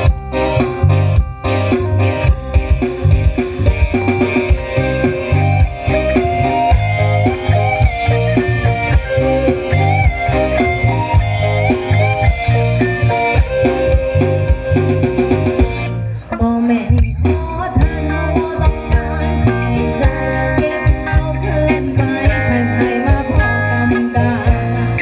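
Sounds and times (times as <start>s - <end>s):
bass guitar: 0.0s - 25.0s
drums: 0.0s - 25.0s
electric guitar melody: 0.0s - 25.0s.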